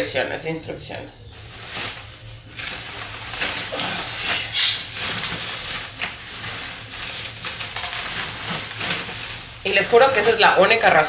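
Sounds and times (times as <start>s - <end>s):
bubble wrap crinkling: 1.3s - 11.0s.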